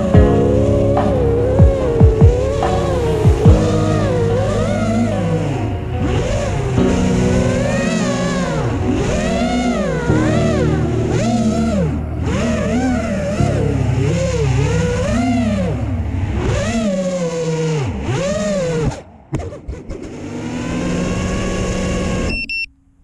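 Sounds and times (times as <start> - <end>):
drone motors revving: 0.0 - 22.7.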